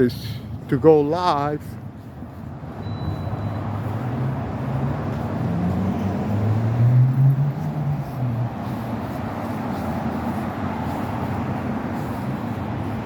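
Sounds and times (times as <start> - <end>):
street traffic: 0.0 - 13.0
vehicle engine running close by: 2.5 - 13.0.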